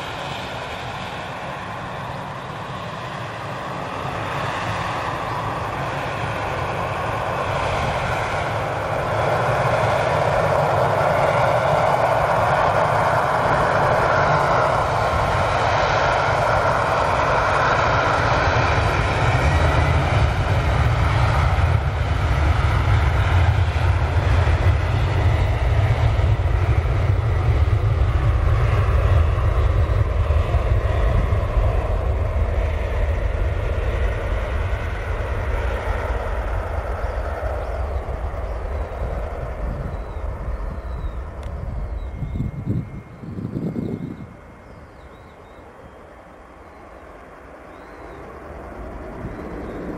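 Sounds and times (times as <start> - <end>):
deep jet rumble: 0.0 - 49.9
jet engines running: 0.0 - 49.9.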